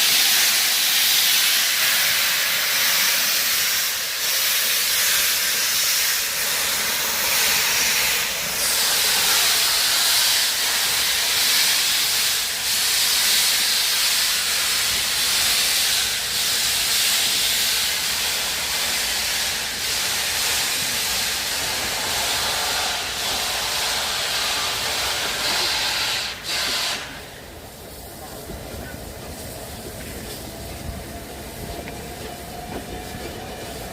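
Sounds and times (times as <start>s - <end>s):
steam locomotive hissing: 0.0s - 33.9s.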